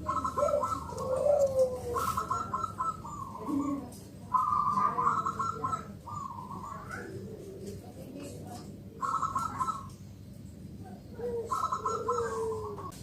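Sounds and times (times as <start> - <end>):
dove cooing: 0.0 - 10.0, 10.8 - 13.0.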